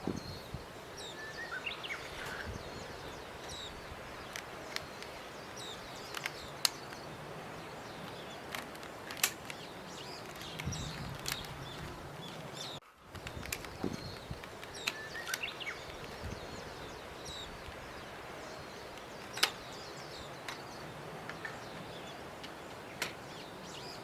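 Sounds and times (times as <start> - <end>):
birds chirping: 0.0 - 24.0
steady hiss: 0.0 - 24.0.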